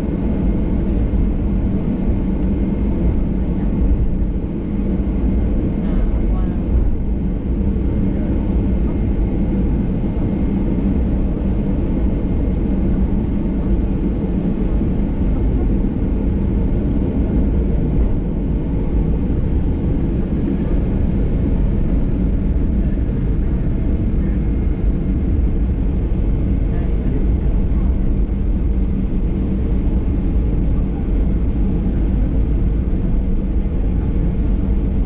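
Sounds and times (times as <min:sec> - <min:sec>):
jet cabin low rumble: 0:00.0 - 0:35.0.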